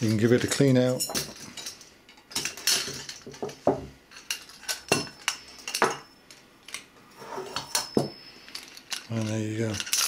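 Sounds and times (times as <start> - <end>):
metal parts clinking and knocking: 0.0 - 6.8, 7.5 - 10.0.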